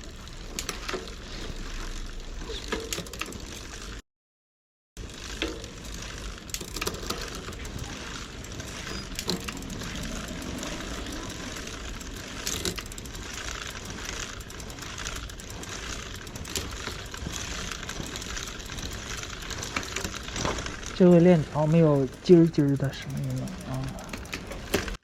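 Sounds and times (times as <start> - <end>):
bike drivetrain rolling: 0.0 - 4.0, 5.0 - 25.0
sharp clicks of drivetrain: 0.0 - 4.0, 5.0 - 25.0.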